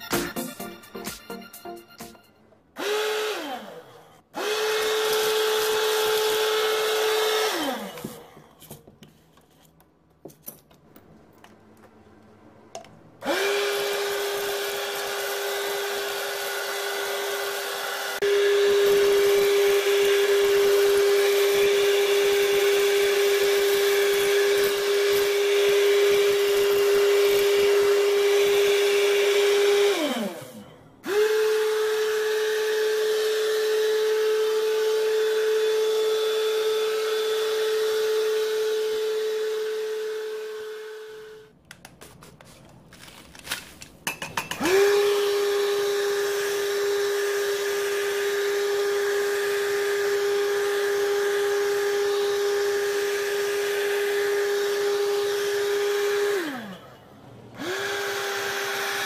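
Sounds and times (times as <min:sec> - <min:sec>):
vacuum cleaner motor whining: 0:02.8 - 0:08.5, 0:13.2 - 0:41.5, 0:44.6 - 0:59.0.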